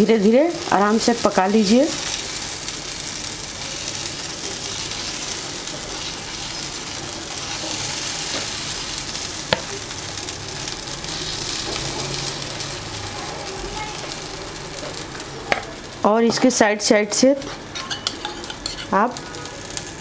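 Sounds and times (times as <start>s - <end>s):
batter sizzling on a hot griddle: 0.0s - 20.0s.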